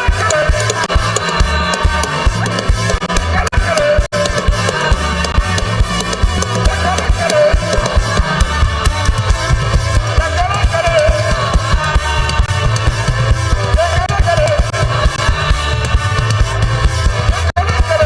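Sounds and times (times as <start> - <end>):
bass: 0.0 - 18.0
drum kit beat: 0.0 - 18.0
gospel band playing: 0.0 - 18.0.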